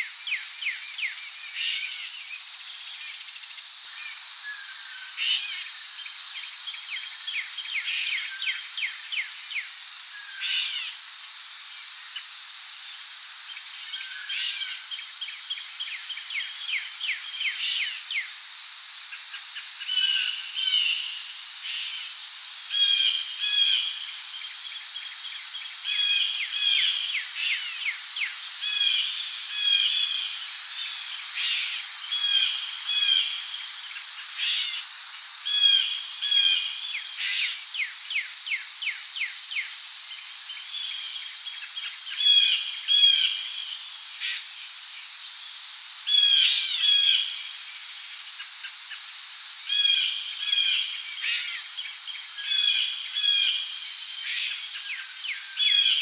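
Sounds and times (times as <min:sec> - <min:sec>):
crickets droning: 0:00.0 - 0:56.0.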